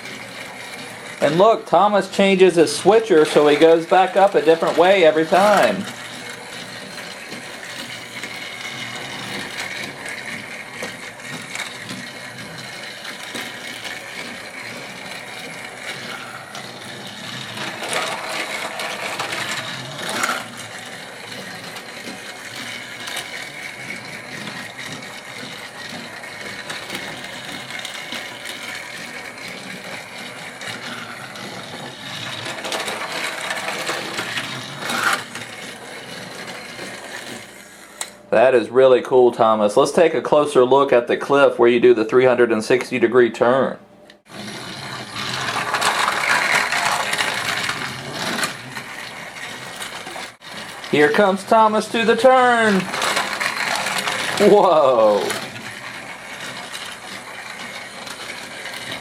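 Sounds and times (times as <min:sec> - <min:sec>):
toy train whirring and rattling: 0:00.0 - 0:59.0.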